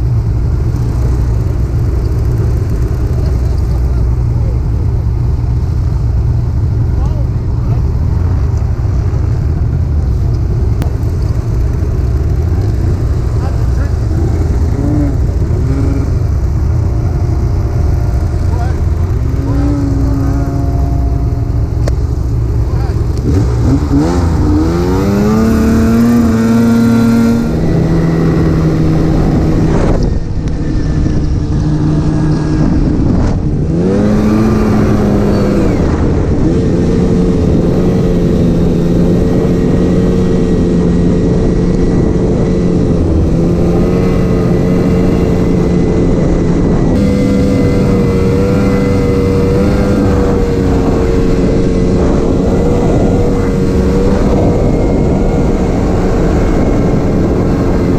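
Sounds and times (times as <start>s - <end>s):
constant rush of noise: 0.0s - 57.9s
snowmobile engine revving: 9.0s - 57.9s.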